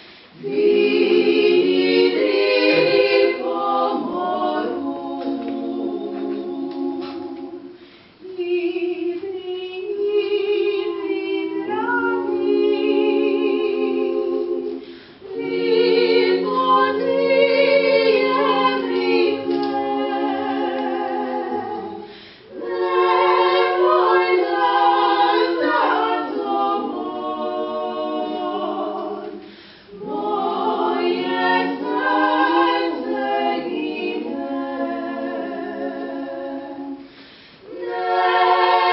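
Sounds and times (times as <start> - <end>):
women singing a cappella harmony: 0.0 - 38.9.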